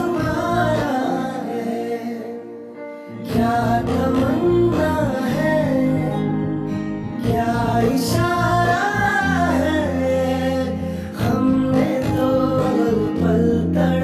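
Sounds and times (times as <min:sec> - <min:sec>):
love song with guitar and bass: 0:00.0 - 0:14.0.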